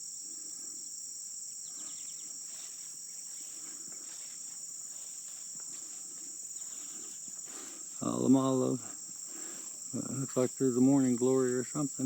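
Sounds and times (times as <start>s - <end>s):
field insects chorus: 0.0s - 12.0s.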